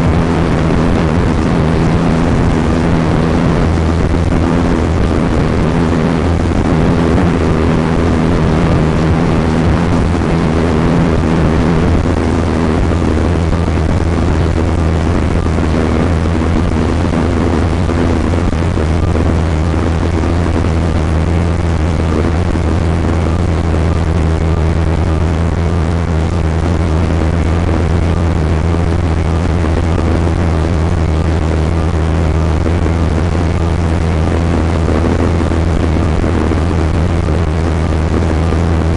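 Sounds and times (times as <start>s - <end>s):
even rushing noise: 0.0s - 38.9s
vehicle engine droning: 0.0s - 38.9s.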